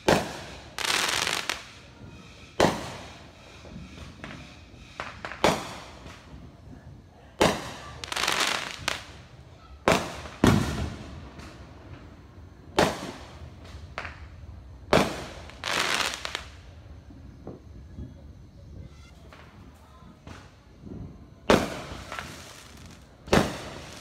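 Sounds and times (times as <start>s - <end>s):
fireworks crackling: 0.0s - 18.1s, 18.7s - 24.0s
fireworks bangs: 0.0s - 24.0s
small fireworks pops: 0.0s - 24.0s.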